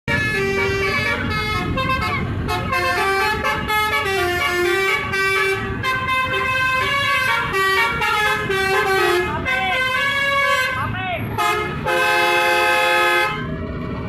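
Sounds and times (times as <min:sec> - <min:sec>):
traffic: 0:00.0 - 0:14.0
bus musical air horn: 0:00.1 - 0:13.6
bus engine rumble: 0:00.1 - 0:14.0.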